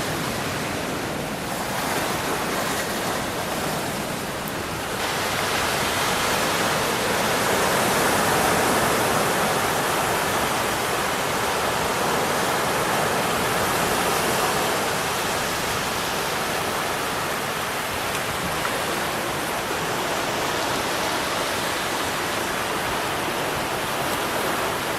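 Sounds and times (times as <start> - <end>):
rushing floodwater roar: 0.0 - 24.9.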